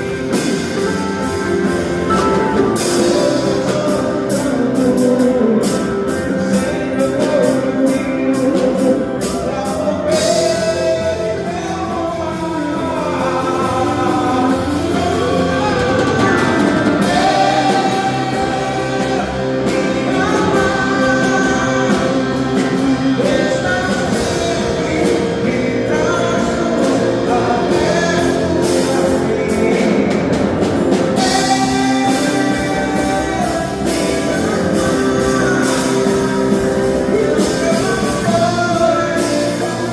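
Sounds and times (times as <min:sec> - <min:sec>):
live band playing worship song: 0:00.0 - 0:39.9
person singing: 0:00.0 - 0:39.9.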